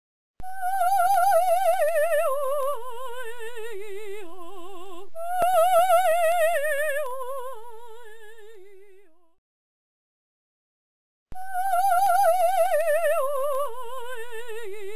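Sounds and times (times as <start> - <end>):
woman singing operatic vocalise: 0.4 - 9.4, 11.4 - 14.9.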